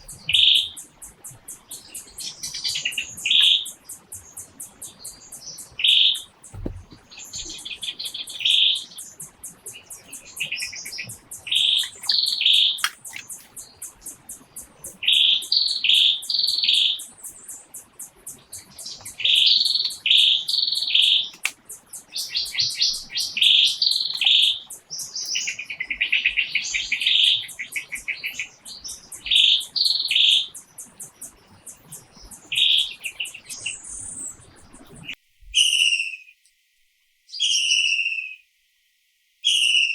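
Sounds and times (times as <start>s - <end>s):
birds chirping: 0.0s - 36.4s.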